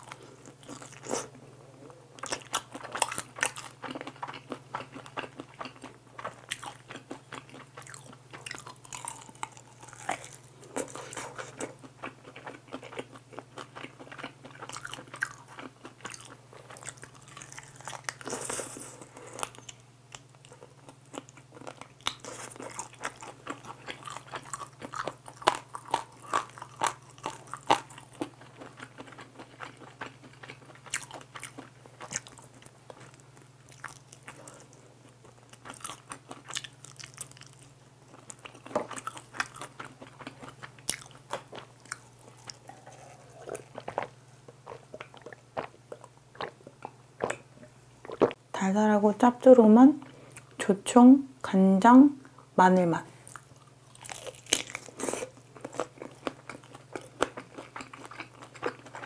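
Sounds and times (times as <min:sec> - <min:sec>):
crunching and chewing chicken: 0:00.0 - 0:48.4, 0:53.2 - 0:59.0.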